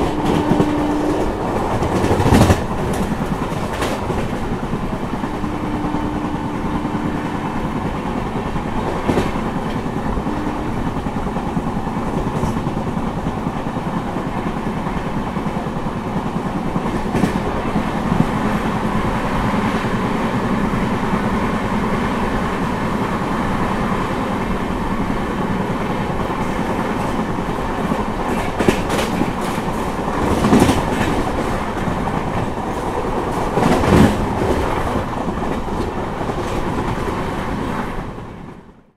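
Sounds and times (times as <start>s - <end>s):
wheels rumbling on rail: 0.0s - 38.9s.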